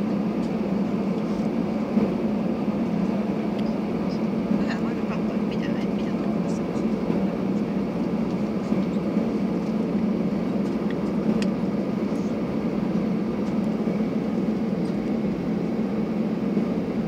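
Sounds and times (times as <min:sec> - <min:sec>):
airplane cabin engine hum: 0:00.0 - 0:17.0.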